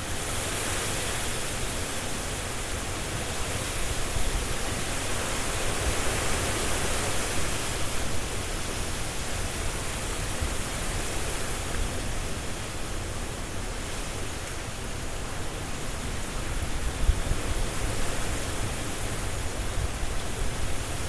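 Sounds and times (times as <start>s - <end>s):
wind gusting through trees: 0.0s - 21.0s.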